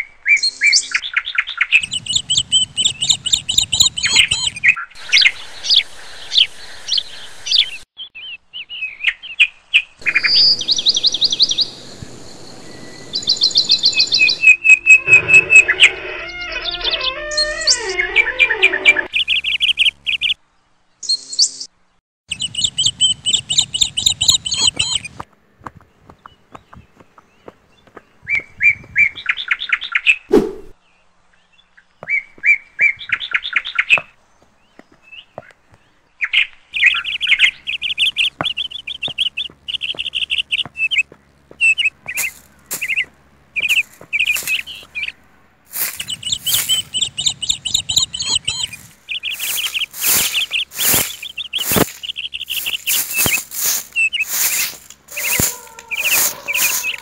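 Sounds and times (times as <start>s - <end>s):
small birds chirping: 0.0s - 21.7s, 22.3s - 57.0s.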